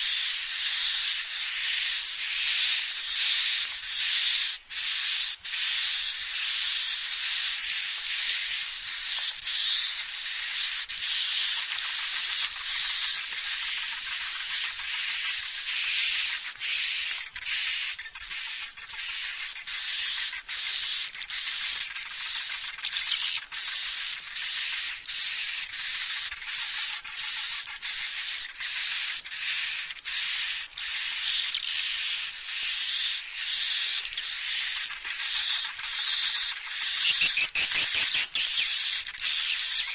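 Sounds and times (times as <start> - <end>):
high-pitched twittering bird calls: 0.0 - 39.9.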